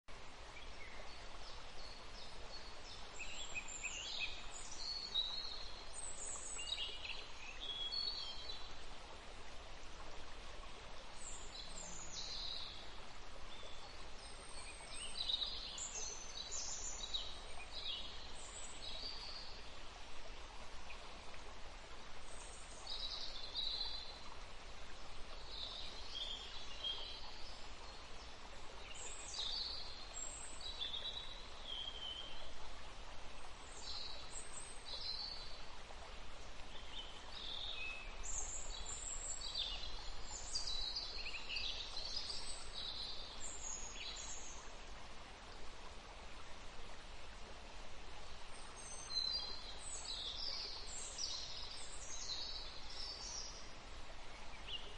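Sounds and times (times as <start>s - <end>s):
steady background hiss: 0.1s - 54.9s.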